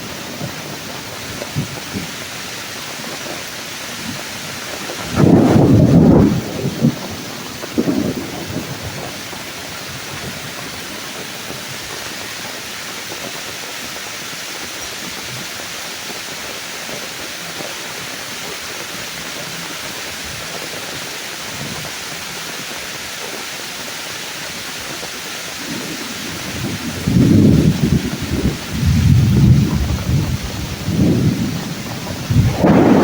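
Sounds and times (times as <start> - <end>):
rain on leaves: 0.0 - 33.0.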